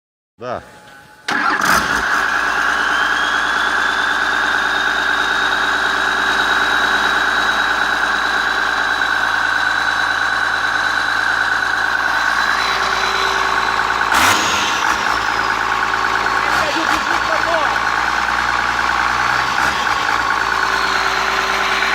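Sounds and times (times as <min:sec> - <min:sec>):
diesel engine running with whine: 0:00.6 - 0:21.9.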